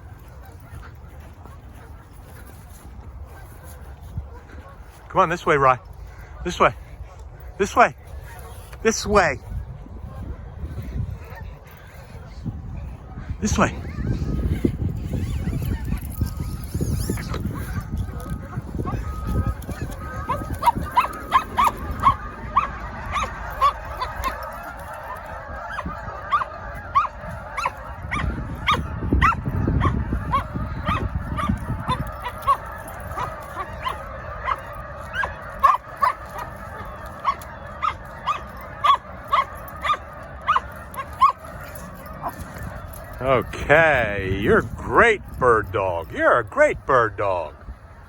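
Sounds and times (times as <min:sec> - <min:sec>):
geese honking: 0:07.5 - 0:12.0, 0:13.4 - 0:48.0.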